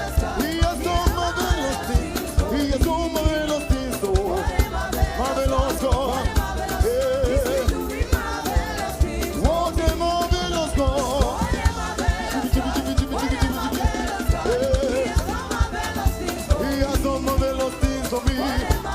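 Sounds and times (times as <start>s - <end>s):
gospel singing with band: 0.0s - 18.9s
steady drum beat: 0.0s - 18.9s.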